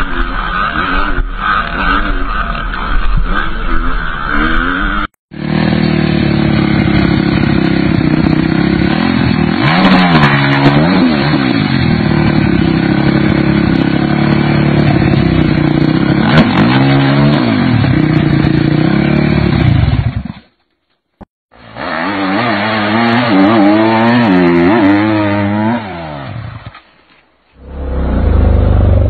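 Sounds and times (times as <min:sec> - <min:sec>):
dirt bike engine revving: 0:00.0 - 0:20.5, 0:21.6 - 0:26.8.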